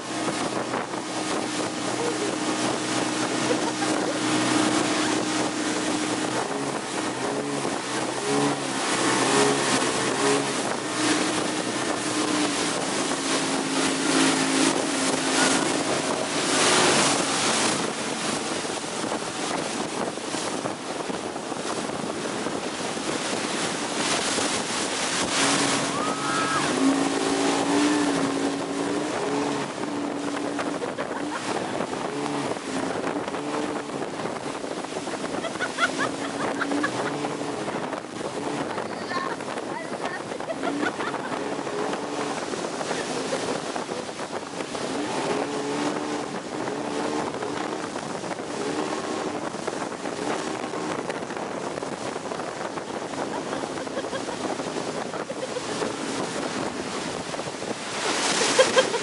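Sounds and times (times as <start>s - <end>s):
outboard motor drone: 0.0s - 59.0s
rush of wake and spray: 0.0s - 59.0s
wind buffeting microphone: 0.0s - 59.0s.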